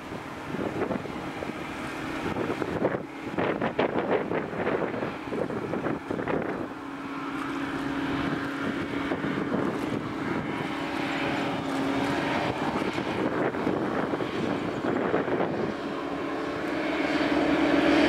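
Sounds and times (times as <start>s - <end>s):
hovercraft engines droning: 0.0s - 18.0s
wind buffeting microphone: 0.0s - 18.0s.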